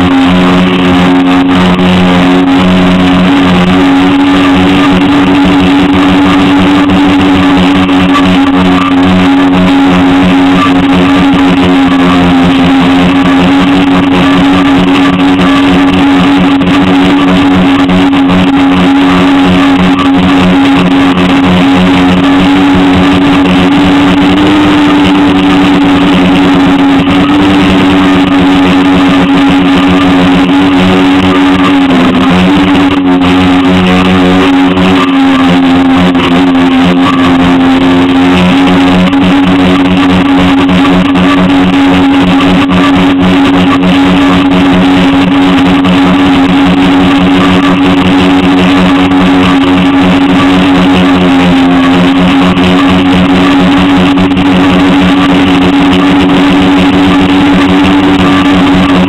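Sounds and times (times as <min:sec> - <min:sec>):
drone motors and propellers: 0:00.0 - 0:59.0.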